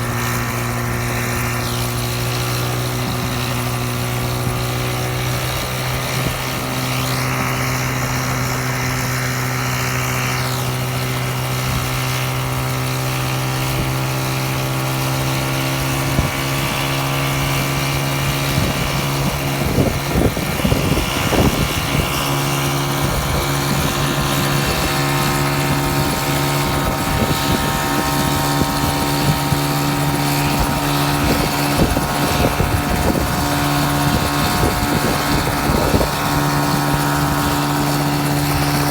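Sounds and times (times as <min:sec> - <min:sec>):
high whine: 0:00.0 - 0:12.4, 0:15.0 - 0:38.9
helicopter running steadily: 0:00.0 - 0:38.9.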